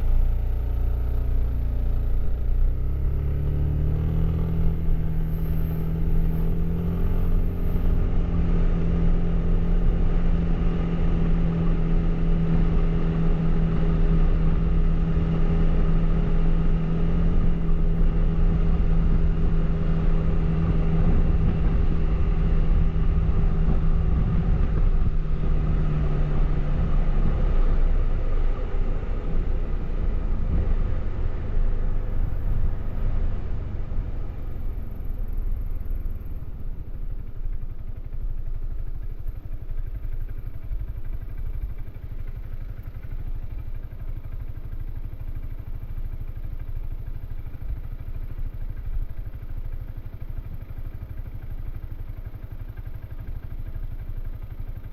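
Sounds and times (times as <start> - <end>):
scooter engine running: 0.0 - 54.9.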